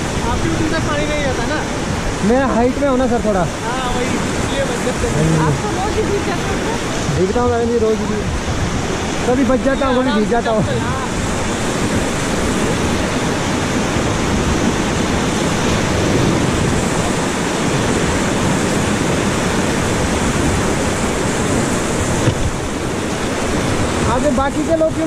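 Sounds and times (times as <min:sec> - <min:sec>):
rapids rushing water: 0:00.0 - 0:25.0.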